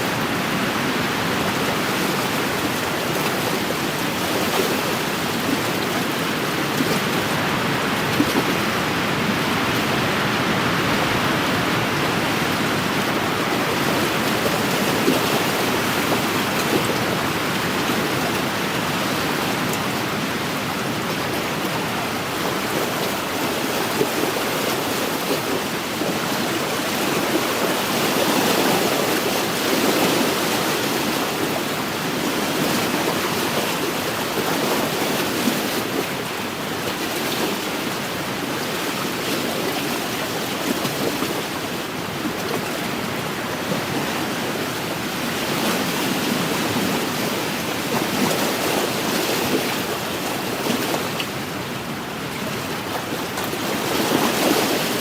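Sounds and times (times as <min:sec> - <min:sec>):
lake waves lapping on shore: 0:00.0 - 0:55.0.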